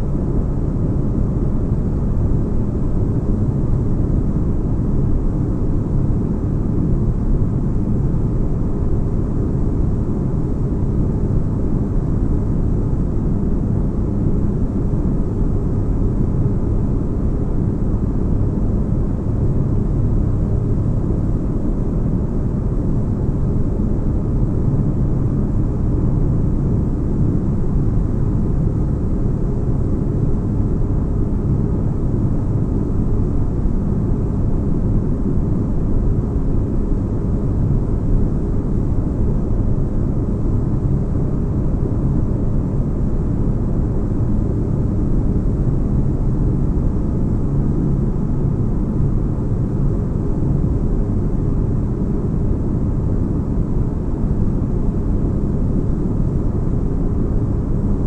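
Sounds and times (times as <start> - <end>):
faint hum tones: 0.0 - 58.0.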